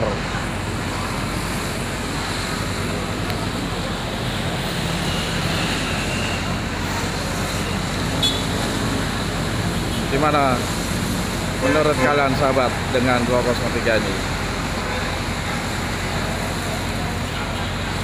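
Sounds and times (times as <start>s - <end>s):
diesel bus engines idling: 0.0s - 18.0s.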